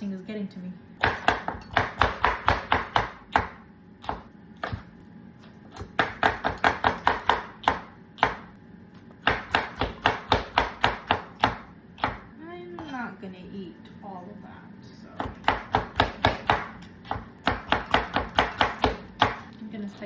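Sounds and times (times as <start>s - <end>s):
knife chopping on cutting board: 1.0s - 12.9s, 15.2s - 19.5s.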